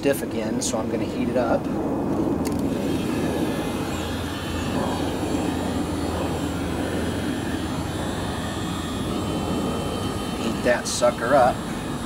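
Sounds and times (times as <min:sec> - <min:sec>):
heat gun fan whirring: 0:00.0 - 0:12.0.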